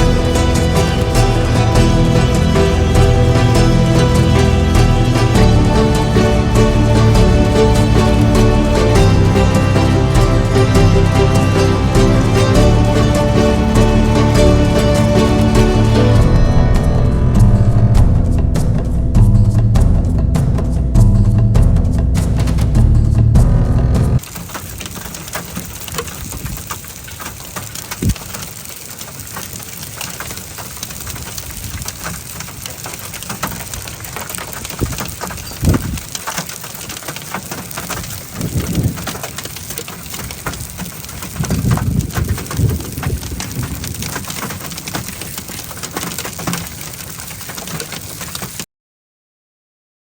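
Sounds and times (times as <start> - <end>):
thunder rumbles: 0.0 - 24.3, 30.4 - 47.0
rain falling: 0.0 - 48.7.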